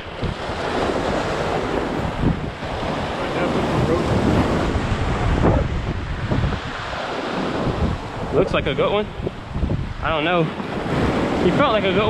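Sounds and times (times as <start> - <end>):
surf washing over rocks: 0.0 - 12.0
wind buffeting microphone: 0.0 - 12.0.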